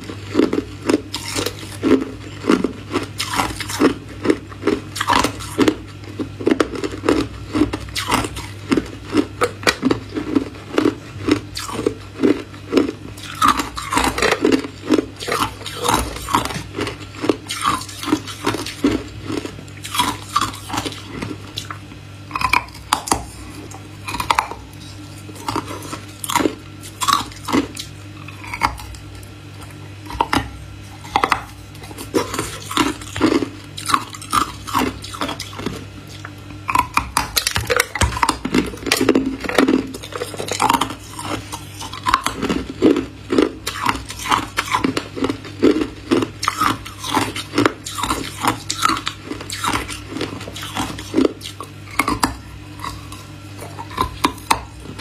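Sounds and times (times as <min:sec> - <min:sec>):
person chewing ice: 0:00.0 - 0:55.0.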